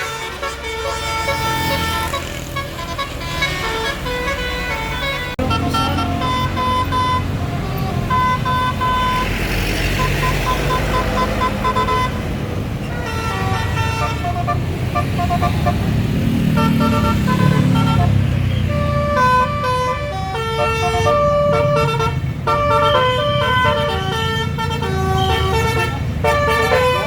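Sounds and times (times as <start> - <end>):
bus musical horns playing melodies: 0.0 - 27.0.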